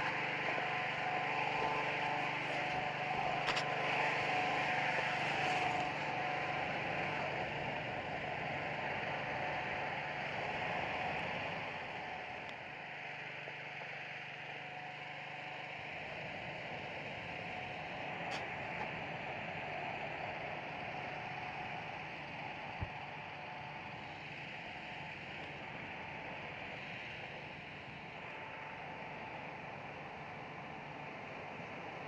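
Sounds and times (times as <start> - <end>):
inflator fan running: 0.0 - 32.0.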